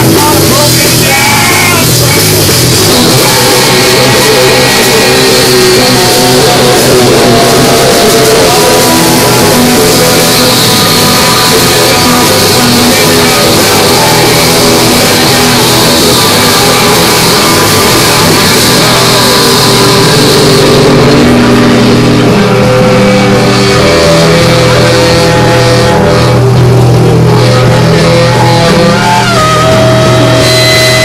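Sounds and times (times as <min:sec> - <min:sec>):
electric guitar: 0:00.0 - 0:31.0
live rock band playing: 0:00.0 - 0:31.0.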